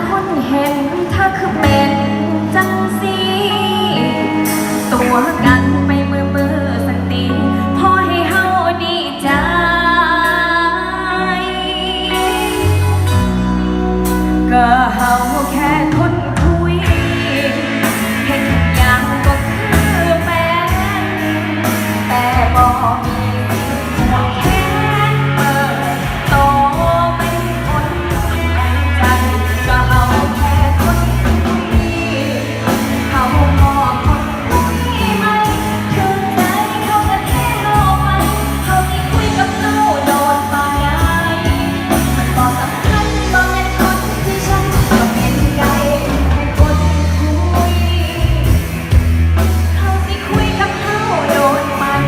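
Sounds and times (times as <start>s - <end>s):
live band playing pop-rock: 0.0s - 52.0s.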